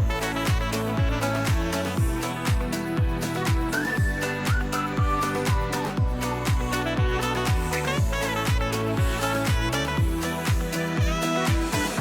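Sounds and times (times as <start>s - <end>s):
deep kick drum: 0.0s - 12.0s
held synth notes: 0.0s - 12.0s.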